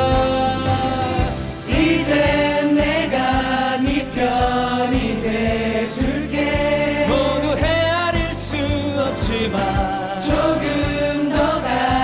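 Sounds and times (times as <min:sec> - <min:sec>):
backing track with drum beat: 0:00.0 - 0:12.0
men singing into microphones: 0:00.0 - 0:12.0.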